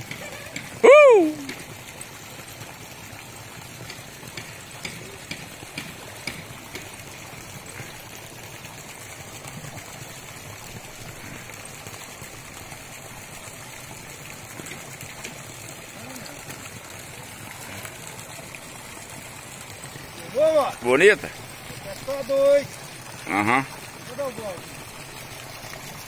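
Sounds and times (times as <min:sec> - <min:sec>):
water jet splashing into pond: 0:00.0 - 0:26.0.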